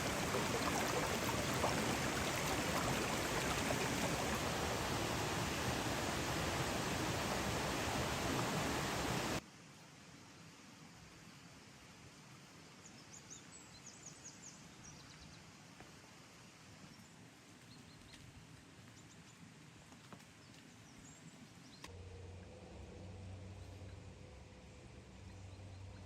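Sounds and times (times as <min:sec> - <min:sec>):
faint background hiss: 0:00.0 - 0:26.0.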